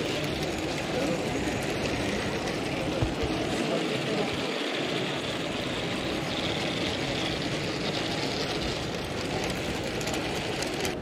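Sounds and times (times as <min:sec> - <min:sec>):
exhibition hall hubbub: 0:00.0 - 0:11.0.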